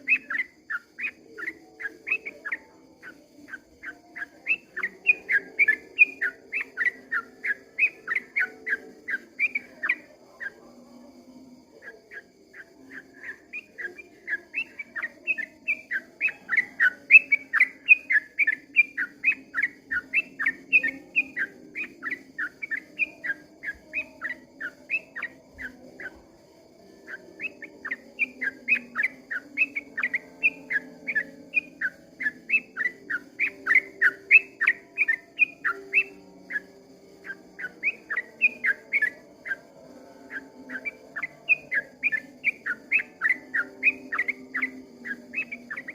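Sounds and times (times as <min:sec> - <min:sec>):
bird singing whistled notes: 0:00.0 - 0:45.9.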